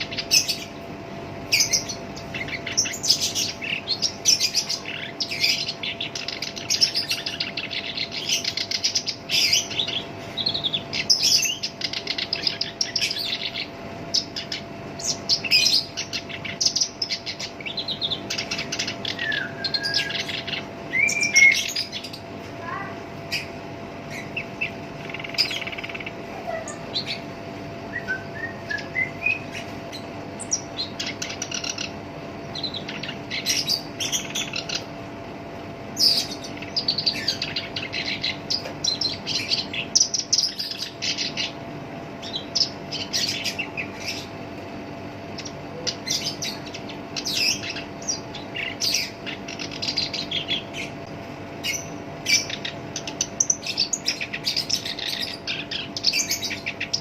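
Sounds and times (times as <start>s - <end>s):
warbler chattering song: 0.0s - 57.0s.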